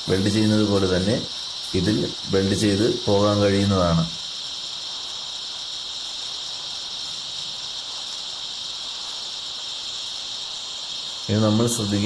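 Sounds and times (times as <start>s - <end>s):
welding arc hissing: 0.0s - 12.0s.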